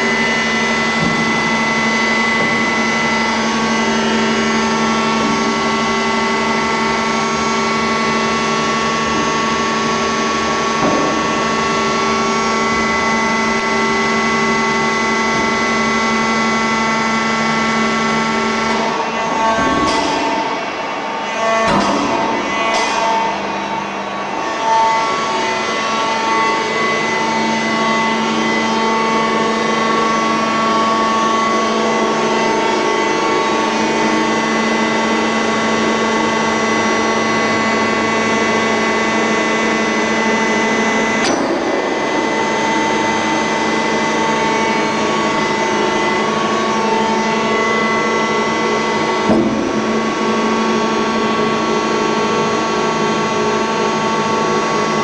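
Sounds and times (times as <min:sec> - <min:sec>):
metal lathe whining: 0:00.0 - 0:55.0.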